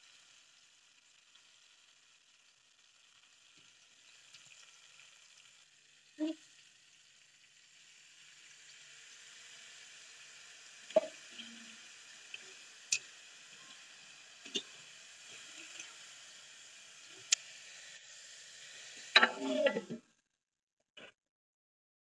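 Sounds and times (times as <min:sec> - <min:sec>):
vegetables sizzling in oil: 0:00.0 - 0:20.1.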